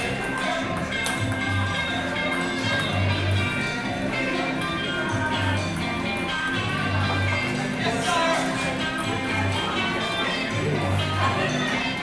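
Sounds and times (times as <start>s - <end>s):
background music with low bass: 0.0s - 12.0s.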